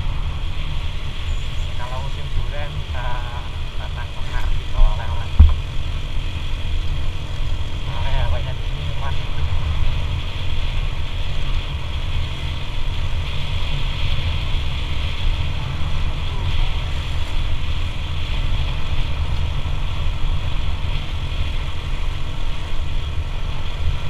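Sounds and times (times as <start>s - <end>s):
road noise: 0.0s - 24.0s
wind rumble on microphone: 0.0s - 24.0s.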